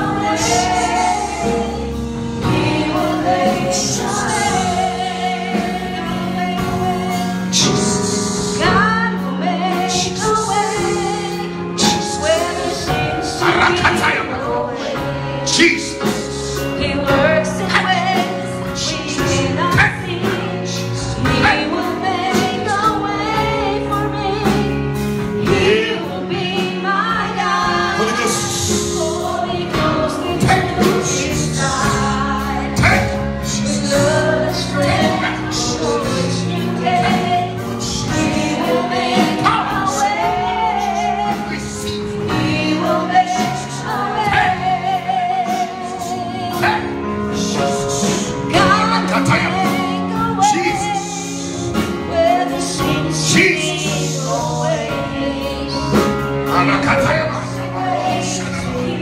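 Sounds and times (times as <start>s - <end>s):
gospel singing with instruments: 0.0s - 59.0s.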